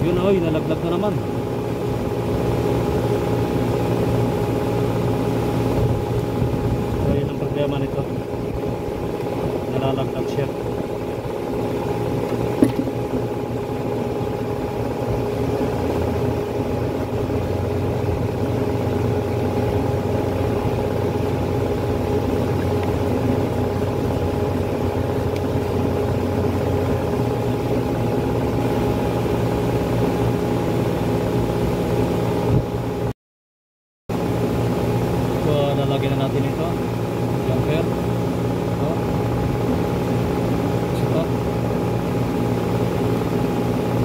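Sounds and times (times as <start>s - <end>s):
machine humming: 0.0s - 33.1s, 34.1s - 44.0s.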